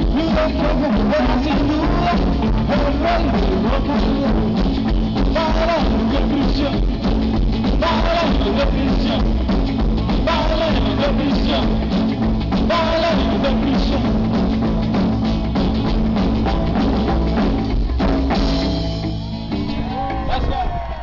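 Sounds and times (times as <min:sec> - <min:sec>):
double bass: 0:00.0 - 0:20.2
drum kit beat: 0:00.0 - 0:20.3
acoustic and electric guitars: 0:00.0 - 0:21.0.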